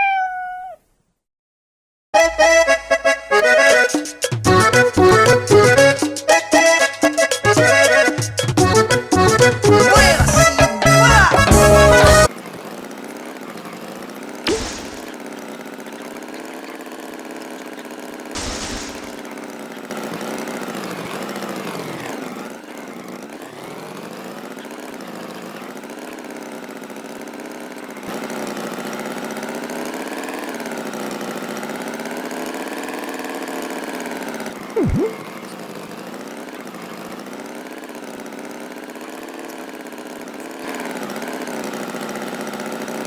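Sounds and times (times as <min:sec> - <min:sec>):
engine idling: 0:04.5 - 0:43.0.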